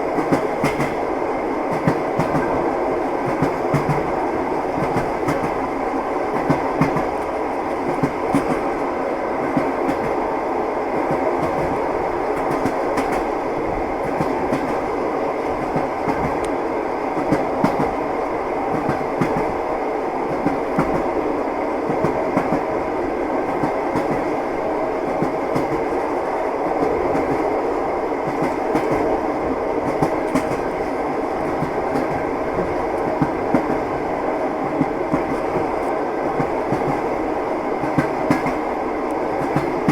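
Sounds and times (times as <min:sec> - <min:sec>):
train wheels clattering on rails: 0:00.0 - 0:21.2, 0:21.9 - 0:22.8, 0:23.4 - 0:29.2, 0:29.8 - 0:39.9.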